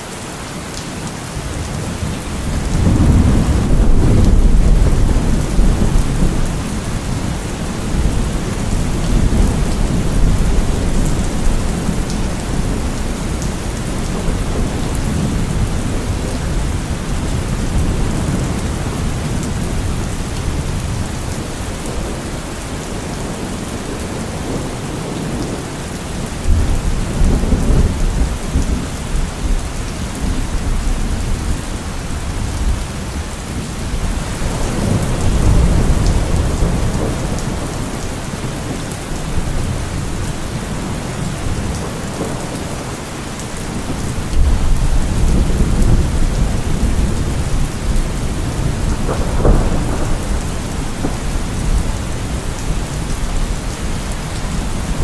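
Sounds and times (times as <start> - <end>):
heavy rain: 0.0 - 55.0
low rolling thunder: 1.6 - 55.0.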